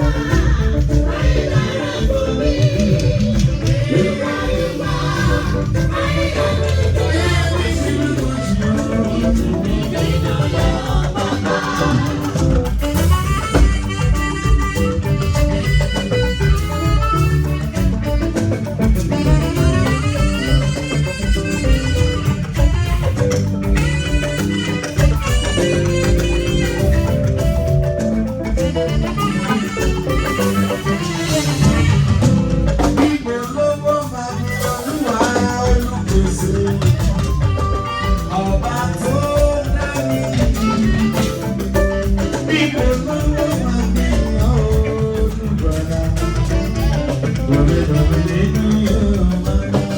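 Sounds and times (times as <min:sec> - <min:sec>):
upbeat band music: 0:00.0 - 0:49.9.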